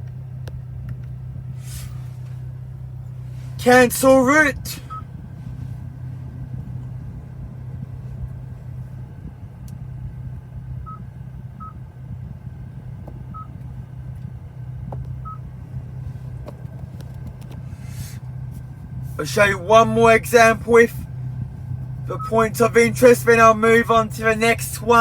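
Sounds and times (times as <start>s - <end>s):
low cabin hum: 0.0s - 25.0s.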